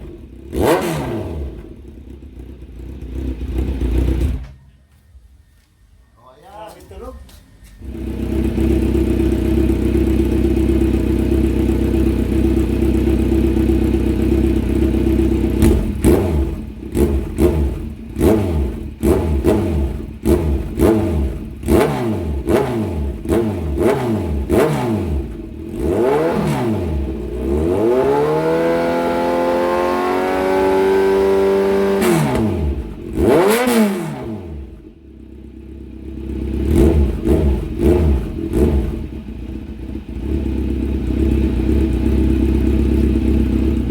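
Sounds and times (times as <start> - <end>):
motorcycle engine idling and revving: 0.0 - 5.6, 7.4 - 43.9.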